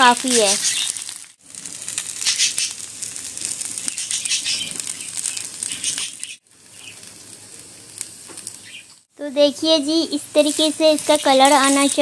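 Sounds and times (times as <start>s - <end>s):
okra sizzling in hot oil: 0.0s - 12.0s.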